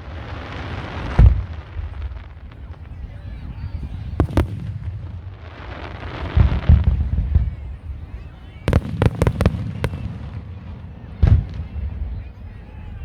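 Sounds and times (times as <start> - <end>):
firework sharp cracks: 0.0 - 12.0
firework deep booms: 0.0 - 12.4.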